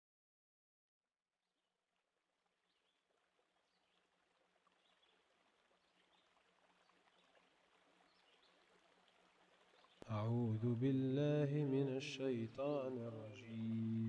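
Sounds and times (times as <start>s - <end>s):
faint running stream: 1.8s - 14.0s.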